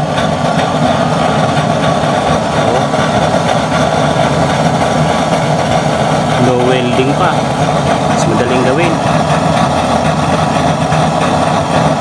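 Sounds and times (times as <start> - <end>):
low hum: 0.0 - 12.0
oil stove flame and blower rushing: 0.0 - 12.0.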